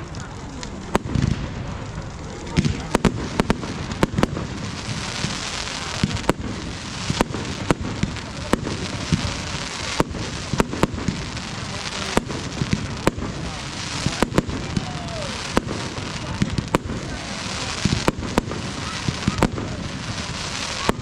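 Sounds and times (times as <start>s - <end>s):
firework bangs: 0.0s - 21.0s
firework crackling hiss: 0.0s - 21.0s.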